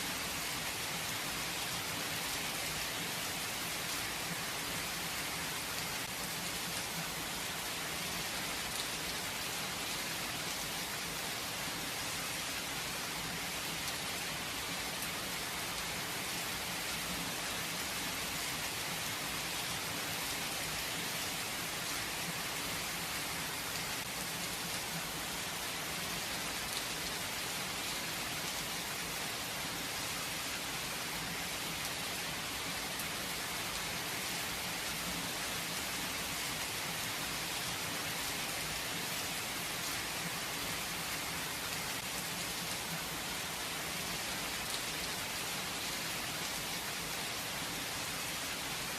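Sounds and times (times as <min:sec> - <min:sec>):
gentle rain falling: 0:00.0 - 0:48.9.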